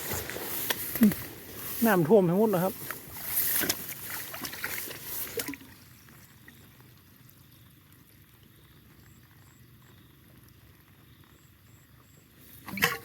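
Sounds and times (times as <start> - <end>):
floodwater flowing in a ditch: 0.0 - 13.0.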